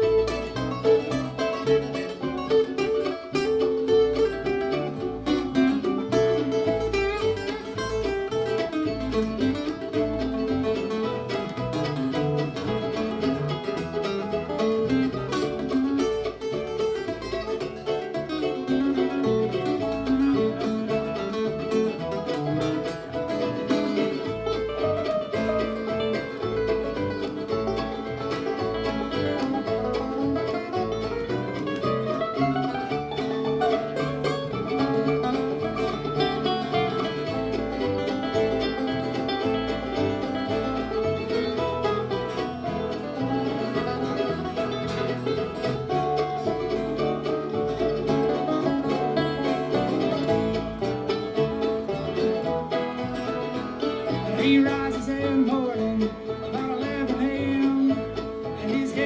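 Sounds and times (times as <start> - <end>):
banjo picking: 0.0 - 59.0
bass: 0.0 - 59.0
bluegrass band playing: 0.0 - 59.0
guitar picking: 0.0 - 59.0.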